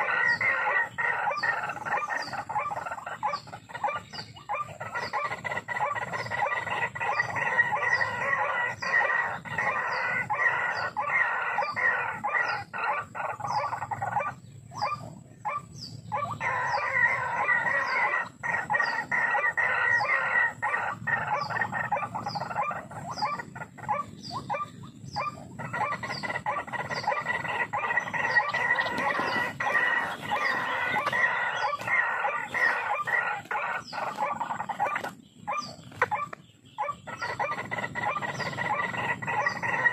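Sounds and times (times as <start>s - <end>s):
bird croaking calls: 0.0s - 39.9s.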